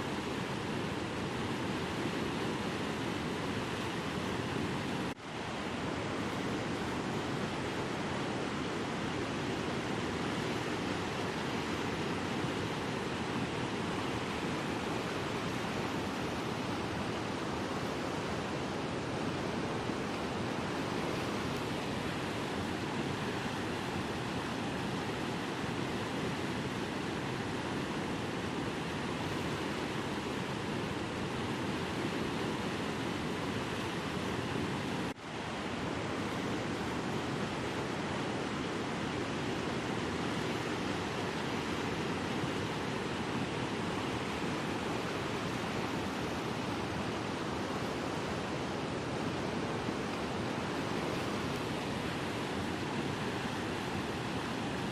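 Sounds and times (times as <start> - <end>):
water rushing: 0.0 - 54.9.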